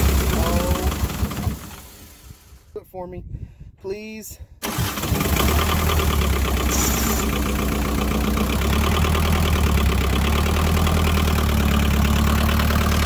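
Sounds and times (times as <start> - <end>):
diesel engine running: 0.0 - 2.7, 4.6 - 13.0.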